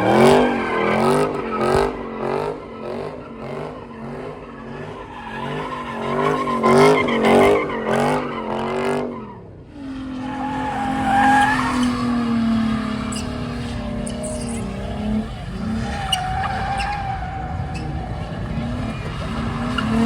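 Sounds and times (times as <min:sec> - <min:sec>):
car engine revving: 0:00.0 - 0:20.0
tyres squealing and skidding: 0:00.0 - 0:20.0.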